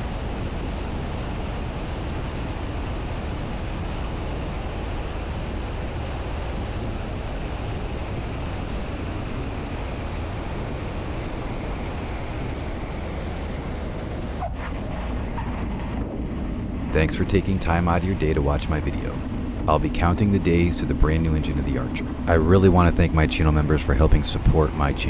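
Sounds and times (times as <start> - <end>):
airframe noise: 0.0 - 25.0
propeller plane engine drone: 0.0 - 25.0.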